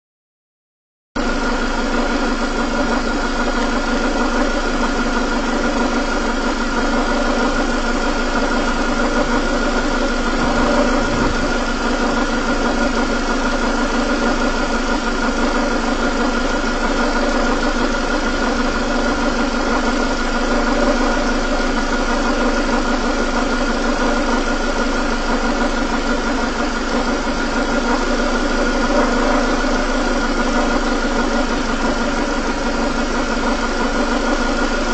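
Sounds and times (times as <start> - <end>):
engine idling: 1.2 - 34.9
steady whine: 1.2 - 34.9.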